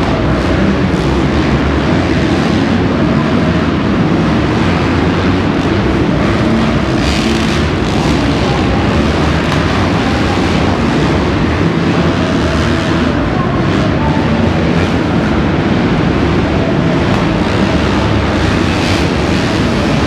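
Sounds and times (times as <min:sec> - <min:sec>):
motocross bike engines droning: 0:00.0 - 0:20.0.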